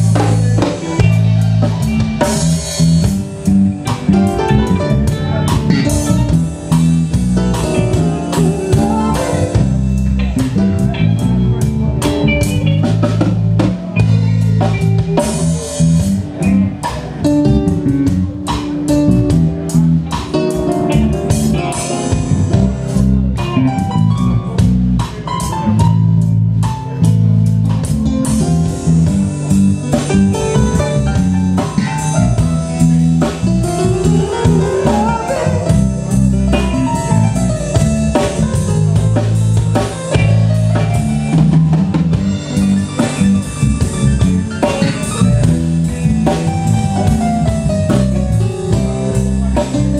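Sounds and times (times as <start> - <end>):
live reggae band playing: 0.0 - 49.9.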